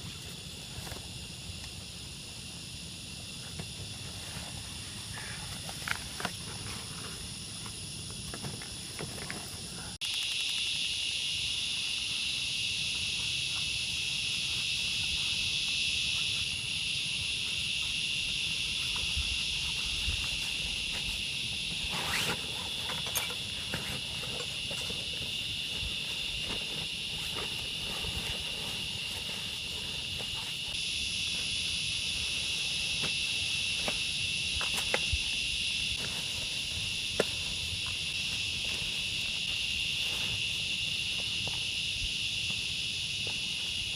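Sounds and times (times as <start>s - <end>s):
shrill insect chorus: 0.0s - 43.9s.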